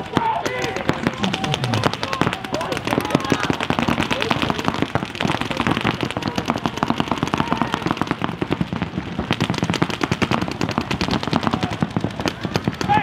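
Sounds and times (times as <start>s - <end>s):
paintball guns firing: 0.0s - 13.0s.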